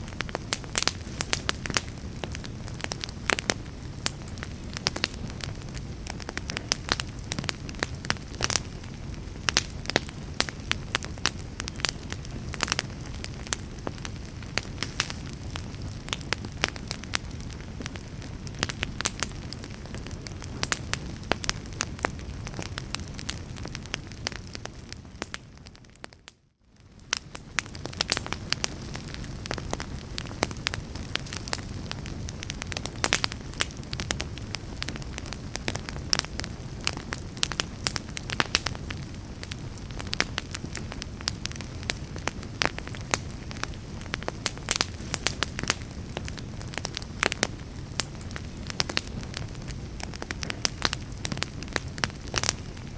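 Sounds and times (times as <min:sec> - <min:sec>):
low rush of flame: 0:00.0 - 0:25.9, 0:26.8 - 0:52.9
log fire crackling and snapping: 0:00.0 - 0:52.9.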